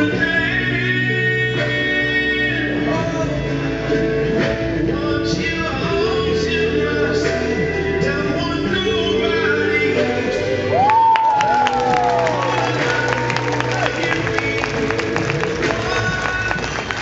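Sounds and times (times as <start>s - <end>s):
song with voice and guitar: 0.0s - 17.0s.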